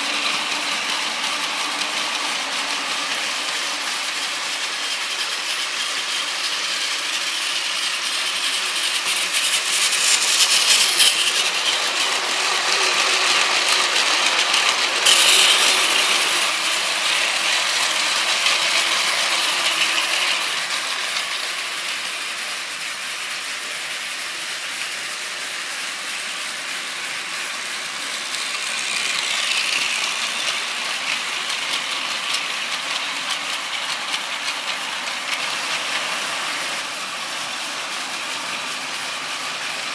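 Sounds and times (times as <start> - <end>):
toy train motor whirring: 0.0 - 39.9
toy train wheels rattling: 0.0 - 39.9.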